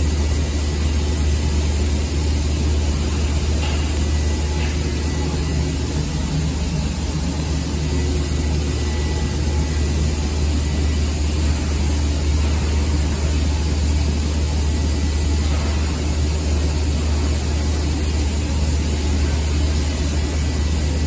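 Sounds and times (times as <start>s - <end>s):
laser cutter humming and hissing: 0.0s - 21.0s.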